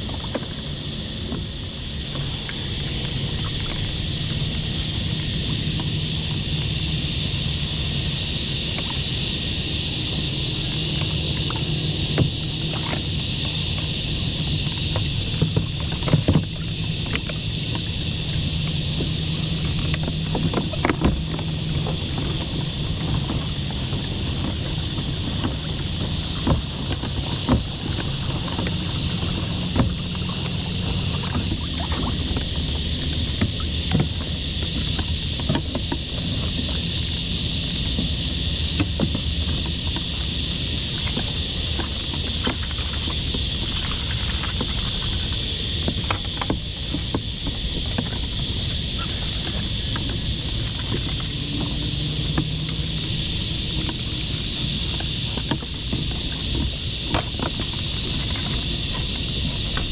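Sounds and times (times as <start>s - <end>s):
high-pitched hiss: 0.0s - 59.9s
low hum: 0.0s - 59.9s.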